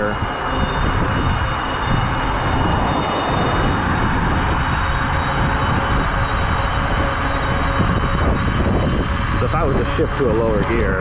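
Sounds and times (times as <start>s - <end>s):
electric bike motor whining: 0.0s - 11.0s
rushing wind noise: 0.0s - 11.0s.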